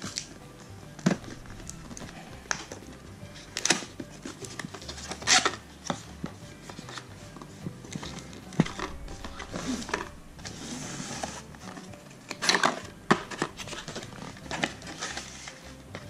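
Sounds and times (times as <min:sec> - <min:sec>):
cardboard scraping and rustling: 0:01.0 - 0:16.0.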